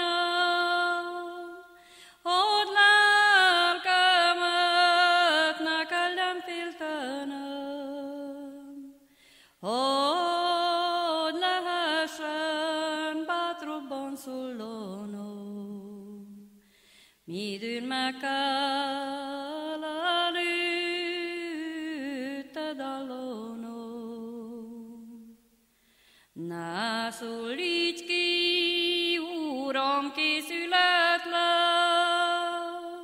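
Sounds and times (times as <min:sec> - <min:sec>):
woman singing unaccompanied: 0:00.0 - 0:09.0, 0:09.6 - 0:16.6, 0:17.3 - 0:25.4, 0:26.4 - 0:33.0.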